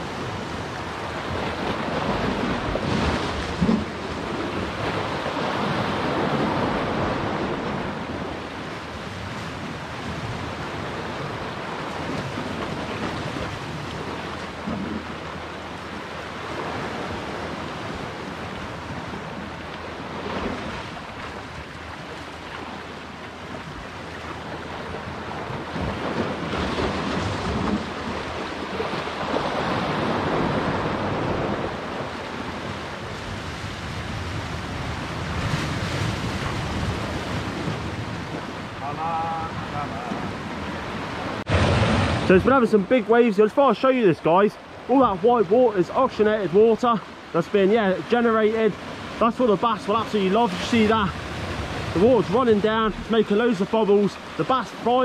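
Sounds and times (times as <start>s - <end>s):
sea waves breaking on rocks: 0.0s - 55.0s.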